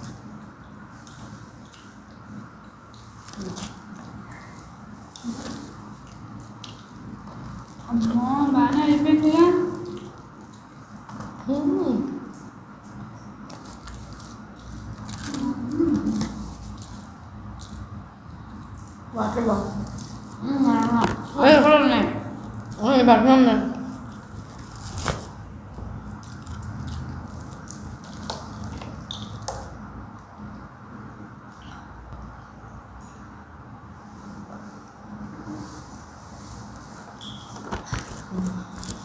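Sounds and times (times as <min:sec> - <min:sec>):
faint eating sounds: 0:00.0 - 0:39.0
low room noise: 0:00.0 - 0:39.0.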